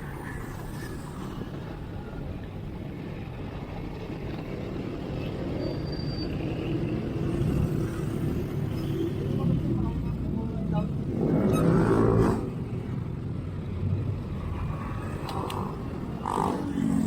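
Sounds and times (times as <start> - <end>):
passing vehicles: 0.0 - 17.0.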